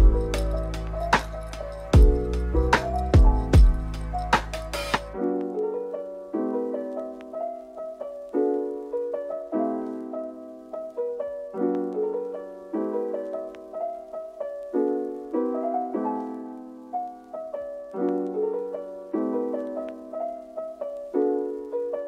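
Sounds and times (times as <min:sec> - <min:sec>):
slow soft piano chords: 0:00.0 - 0:22.0.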